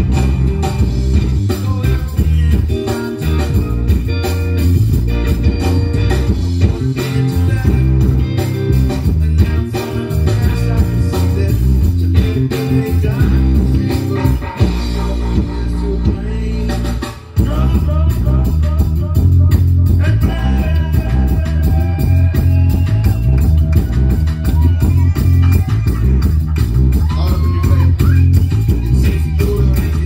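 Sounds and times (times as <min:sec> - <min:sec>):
electric bass line: 0:00.0 - 0:30.0
live rock band playing: 0:00.0 - 0:30.0.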